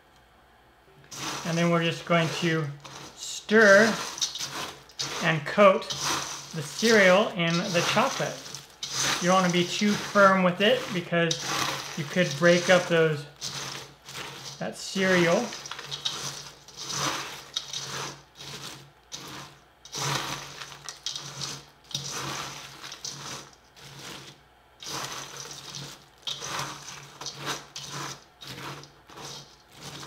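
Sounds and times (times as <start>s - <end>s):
spatula stirring cereal in metal bowl: 1.0s - 30.0s.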